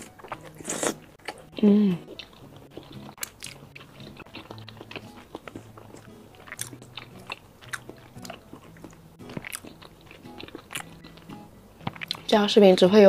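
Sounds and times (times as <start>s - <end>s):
close chewing with wet mouth smacks: 0.0s - 12.3s.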